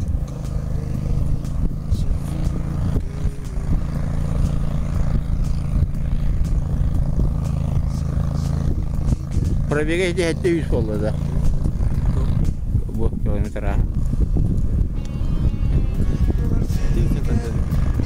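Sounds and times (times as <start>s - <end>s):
motorboat engine droning: 0.0s - 18.0s
wind on microphone: 0.0s - 18.0s.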